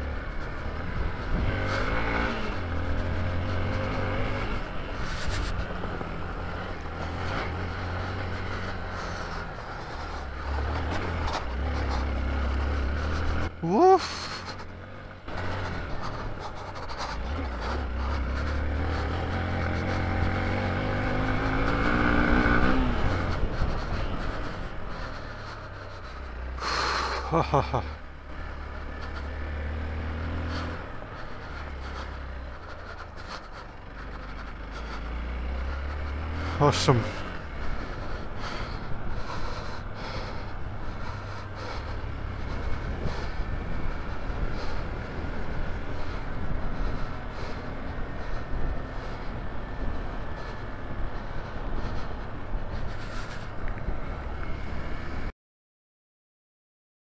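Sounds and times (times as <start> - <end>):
motorcycle engine accelerating: 0.0 - 55.3.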